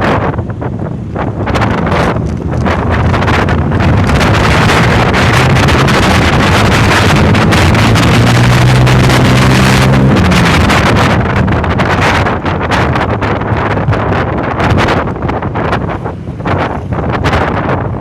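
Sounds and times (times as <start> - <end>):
low steady engine hum: 0.0 - 18.0
road traffic noise: 0.0 - 18.0
wind buffeting microphone: 0.0 - 18.0.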